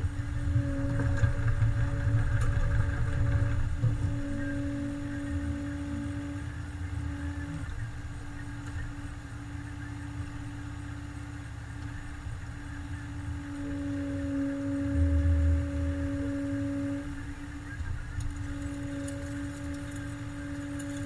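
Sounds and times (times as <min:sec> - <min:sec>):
diesel engine running: 0:00.0 - 0:21.0
steady whine: 0:00.0 - 0:21.0.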